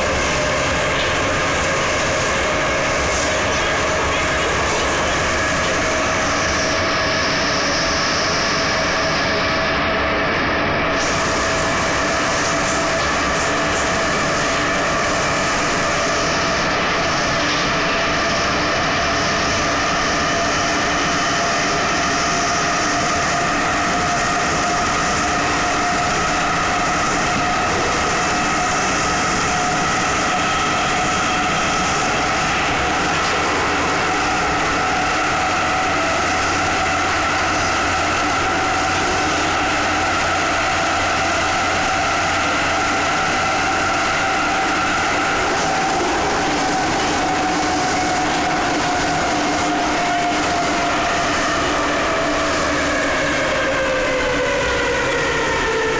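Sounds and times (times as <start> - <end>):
wheels running on rail: 0.0 - 55.9.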